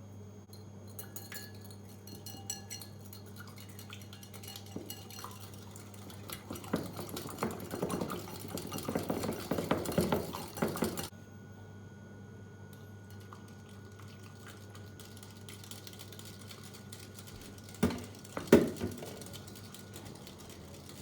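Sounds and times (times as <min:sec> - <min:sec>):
utensil clinking against bowl: 0:00.5 - 0:11.1, 0:14.4 - 0:21.0
whisking in a bowl: 0:01.0 - 0:11.1, 0:13.1 - 0:21.0.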